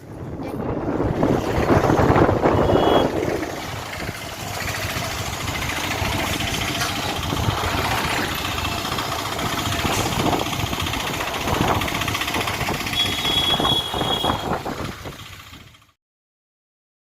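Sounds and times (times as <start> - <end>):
road and traffic noise: 0.0 - 16.0
vehicle engine running: 0.1 - 16.0.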